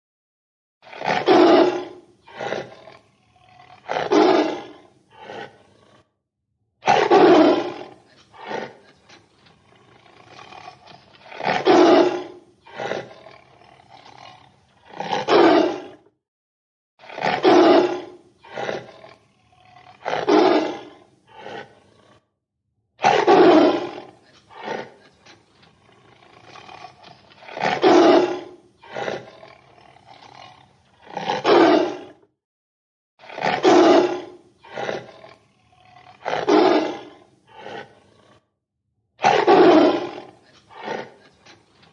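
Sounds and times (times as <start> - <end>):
tiger roaring: 0.8 - 6.1, 6.8 - 16.1, 17.0 - 22.3, 23.0 - 32.3, 33.2 - 38.5, 39.2 - 41.9.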